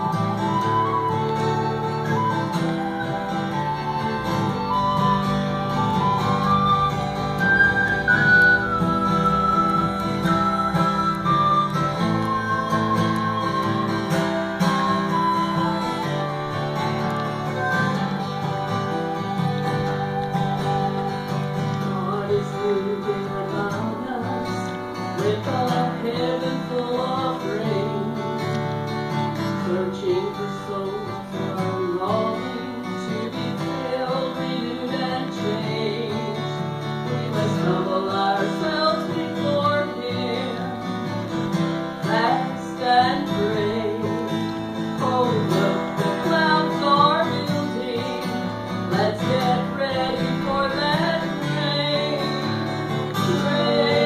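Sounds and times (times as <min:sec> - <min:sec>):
acoustic guitars strumming: 0:00.0 - 0:54.0
bending melody line: 0:00.0 - 0:54.0.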